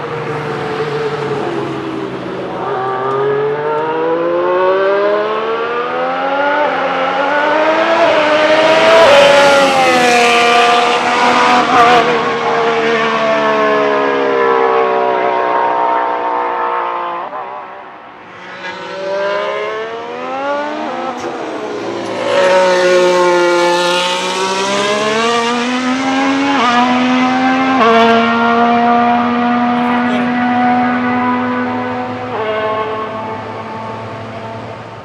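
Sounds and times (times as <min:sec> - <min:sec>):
racing car engine passing: 0:00.0 - 0:35.0.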